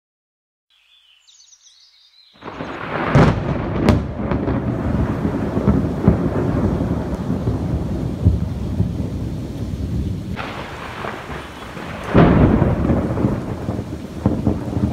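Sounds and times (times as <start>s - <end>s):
rain: 2.4s - 14.9s
sharp thunder cracks: 2.4s - 14.9s
thunder rumbling: 2.4s - 14.9s.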